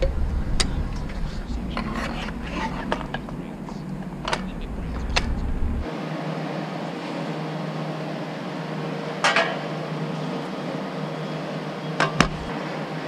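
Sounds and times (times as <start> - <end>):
store interior hum: 0.0 - 13.0.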